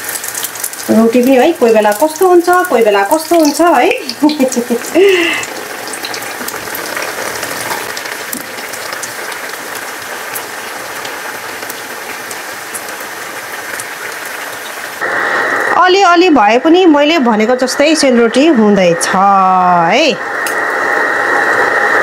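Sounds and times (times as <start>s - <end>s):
small crackles of frying: 0.0s - 15.4s, 18.3s - 22.0s
dough sizzling in hot oil: 0.0s - 22.0s.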